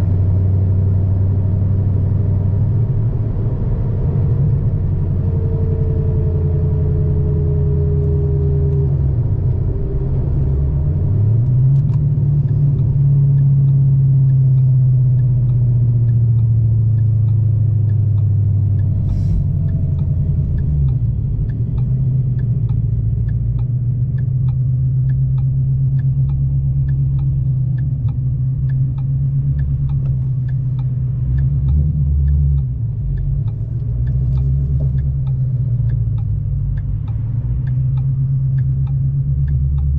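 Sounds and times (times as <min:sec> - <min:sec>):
deep car exhaust rumble: 0:00.0 - 0:39.9
light ticking: 0:05.5 - 0:39.9.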